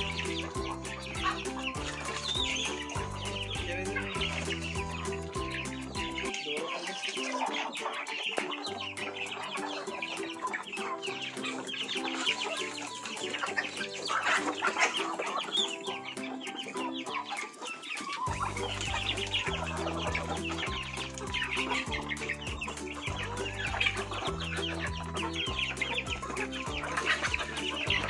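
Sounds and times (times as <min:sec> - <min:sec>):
background music with deep bass: 0:00.0 - 0:28.0
chickens clucking and chirping: 0:00.0 - 0:28.0.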